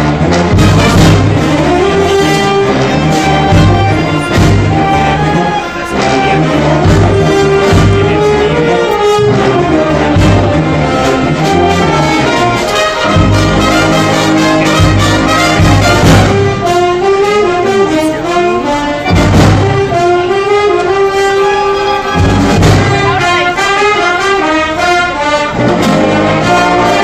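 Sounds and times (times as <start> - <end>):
tuba bass line: 0.0 - 27.0
wind band playing: 0.0 - 27.0.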